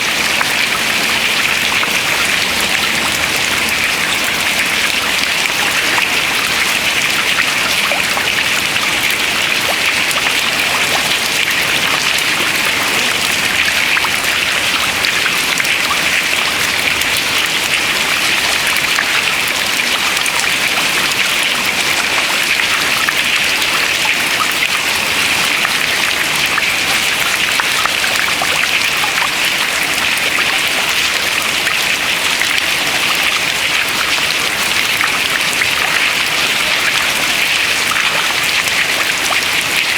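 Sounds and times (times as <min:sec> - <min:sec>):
meltwater dripping into water: 0:00.0 - 0:39.9.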